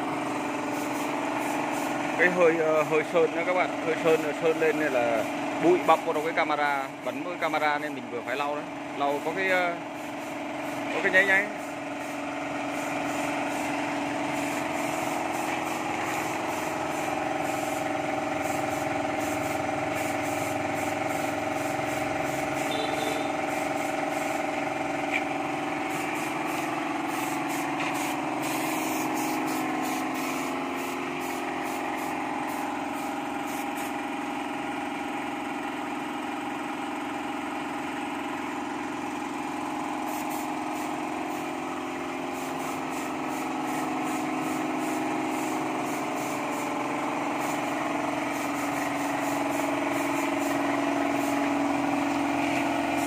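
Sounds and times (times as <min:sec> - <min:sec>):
paint spray gun hissing: 0:00.0 - 0:36.1, 0:37.0 - 0:53.0
air compressor humming: 0:00.0 - 0:53.0.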